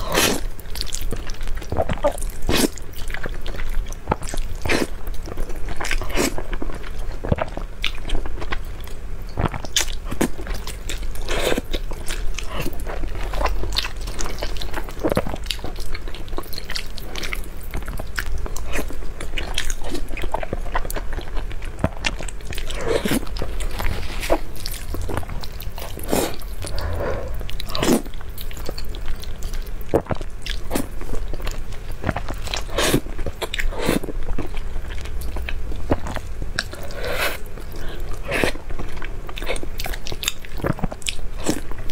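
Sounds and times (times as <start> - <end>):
slurping and chewing noodles: 0.0 - 41.9.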